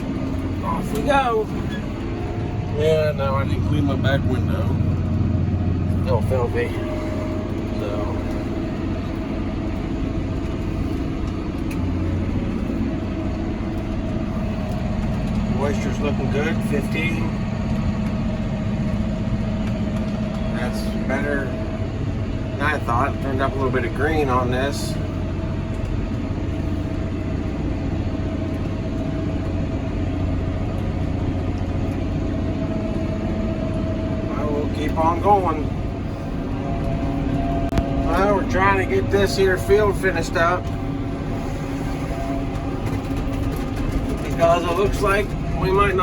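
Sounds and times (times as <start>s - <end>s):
steady high whine: 0.0s - 46.0s
tractor engine low rumble: 0.0s - 46.0s.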